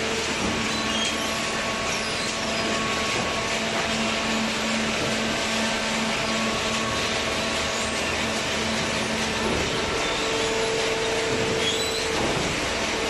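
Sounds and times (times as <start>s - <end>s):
baler machine humming: 0.0s - 13.0s.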